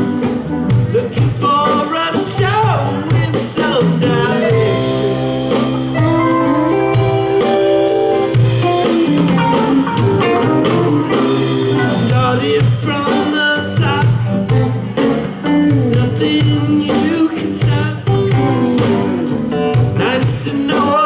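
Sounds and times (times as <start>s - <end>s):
bass line: 0.0s - 21.0s
live rock band playing: 0.0s - 21.0s
steady drum beat: 0.0s - 21.0s.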